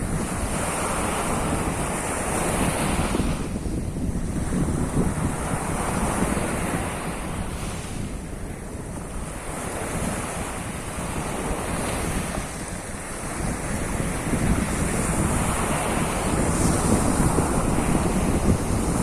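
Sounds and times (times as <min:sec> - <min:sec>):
waves breaking ashore: 0:00.0 - 0:19.0
wind buffeting microphone: 0:00.0 - 0:19.0.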